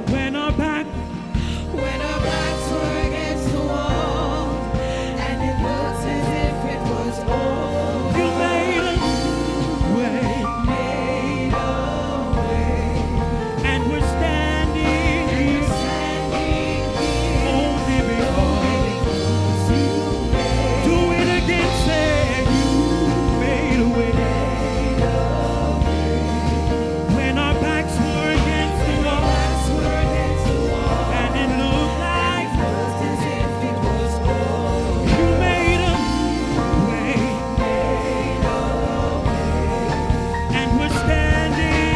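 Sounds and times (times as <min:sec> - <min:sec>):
band accompaniment: 0:00.0 - 0:41.9
low bass notes: 0:00.0 - 0:41.9
voices singing long notes: 0:00.0 - 0:41.9.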